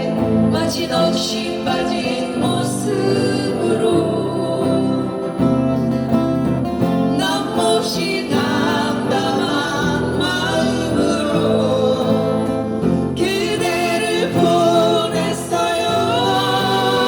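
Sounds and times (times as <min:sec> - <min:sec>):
person singing: 0:00.0 - 0:05.8, 0:07.0 - 0:17.0
strummed acoustic guitar: 0:00.0 - 0:17.0.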